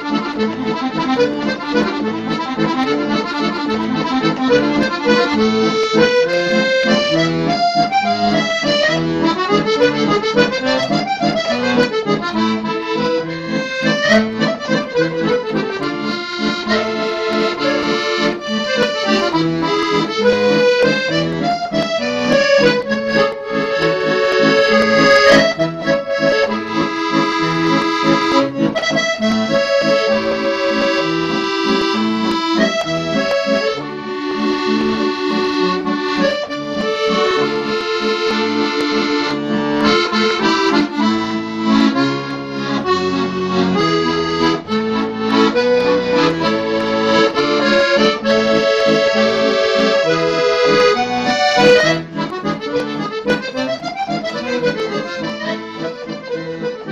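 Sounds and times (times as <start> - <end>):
accordion music: 0.0 - 56.9.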